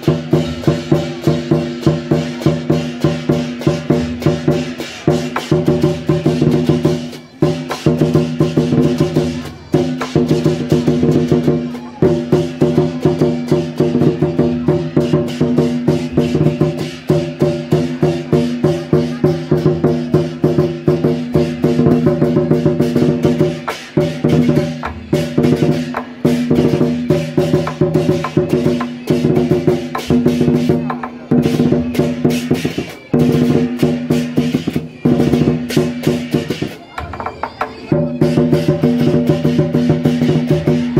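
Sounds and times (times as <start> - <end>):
drums: 0.0 - 40.9.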